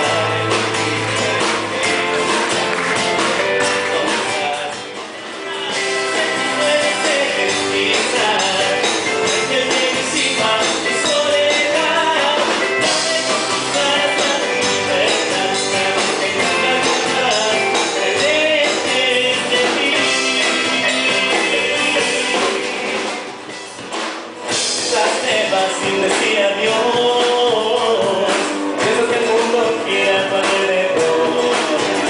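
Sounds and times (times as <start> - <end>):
drums steady beat: 0.0 - 32.0
live band playing: 0.0 - 32.0.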